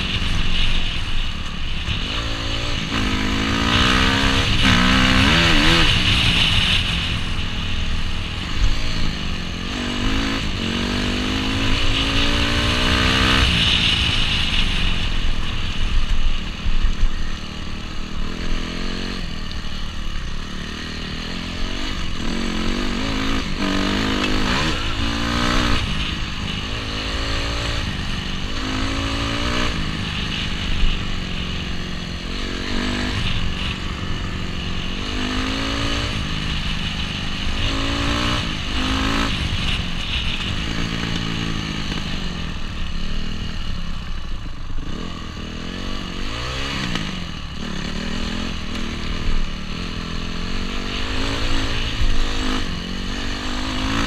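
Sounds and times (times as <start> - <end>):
dirt bike engine revving: 0.0 - 43.8, 44.7 - 54.0.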